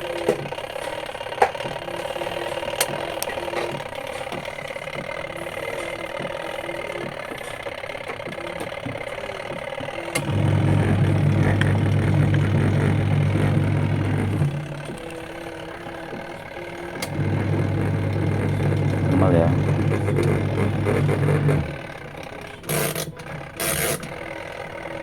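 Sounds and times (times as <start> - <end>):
washing machine motor humming: 0.0 - 25.0.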